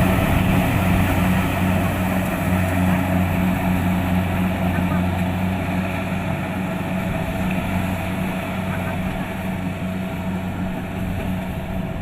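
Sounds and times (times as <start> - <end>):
combine harvester diesel engine drone: 0.0 - 12.0.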